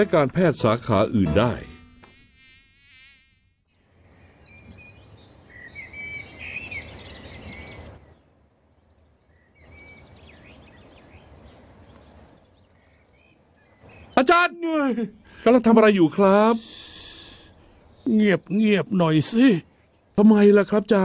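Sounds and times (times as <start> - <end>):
small birds chirping: 3.7 - 21.0.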